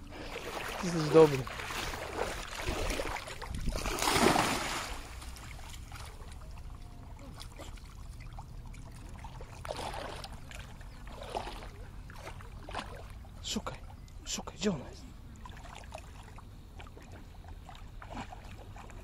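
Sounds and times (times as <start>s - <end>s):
water sloshing: 0.0s - 19.0s
water splashing: 0.0s - 19.0s.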